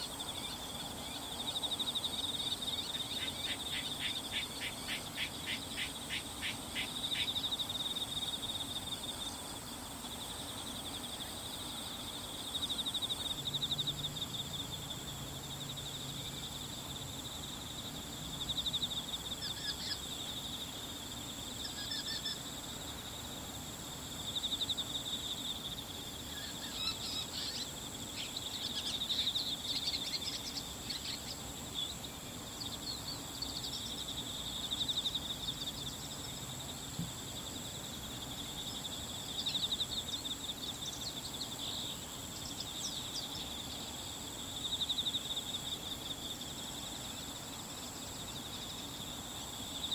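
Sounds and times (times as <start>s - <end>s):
trilling insects: 0.0s - 49.9s.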